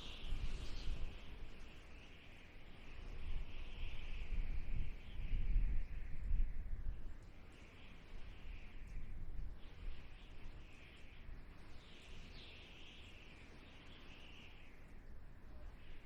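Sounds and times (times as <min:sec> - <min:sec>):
wind blowing in gusts: 0:00.0 - 0:16.0.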